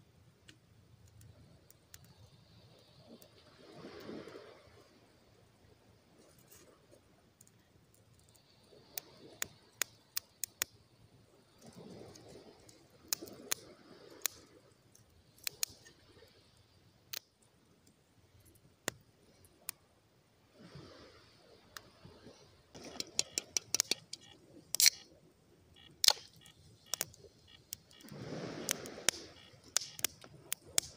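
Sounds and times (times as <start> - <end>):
campfire crackling and popping: 0.4 - 4.6, 7.3 - 19.8, 22.7 - 30.9.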